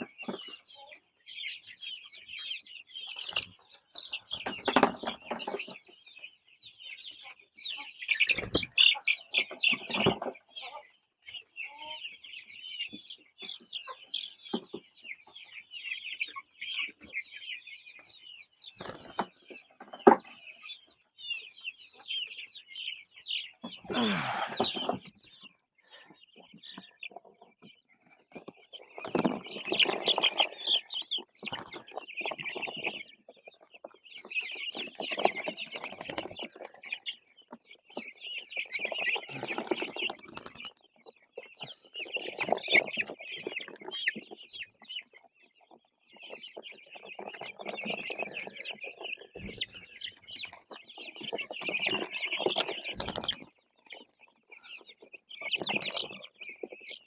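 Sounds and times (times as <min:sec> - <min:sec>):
chicks peeping and clucking: 0:00.0 - 0:57.0.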